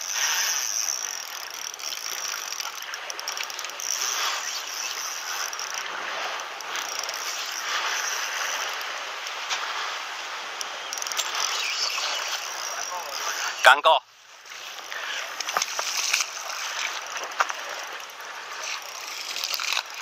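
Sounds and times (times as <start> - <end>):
fishing reel clicking: 0.0 - 9.4, 10.5 - 13.9, 14.6 - 20.0.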